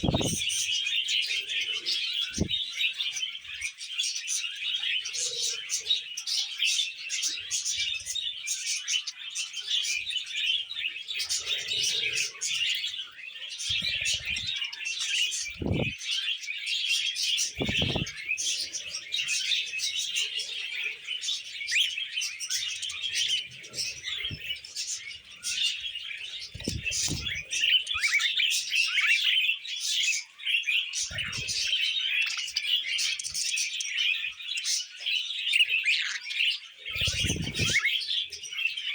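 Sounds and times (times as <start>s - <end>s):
budgerigars chattering: 0.0s - 16.3s, 17.0s - 38.9s.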